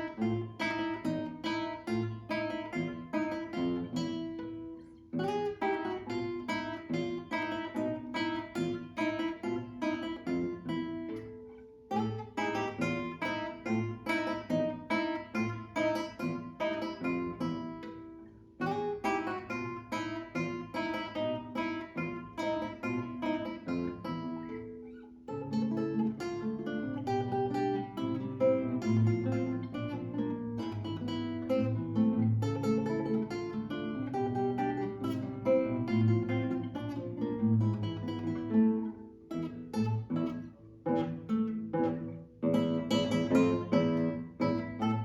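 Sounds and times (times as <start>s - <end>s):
acoustic guitar duet: 0.0s - 45.0s.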